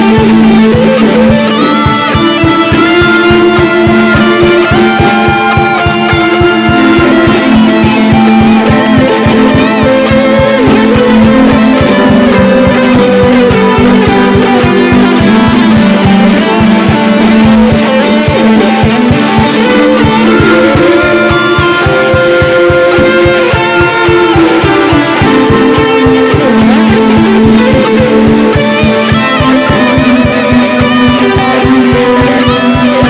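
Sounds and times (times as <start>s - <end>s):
instrumental band music with guitar: 0.0s - 33.0s.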